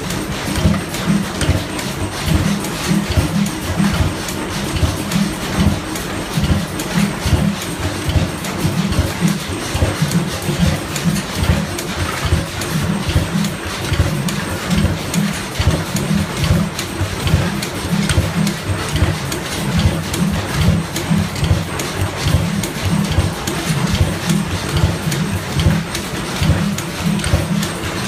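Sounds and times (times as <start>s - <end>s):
stationary engine running: 0.0s - 28.0s.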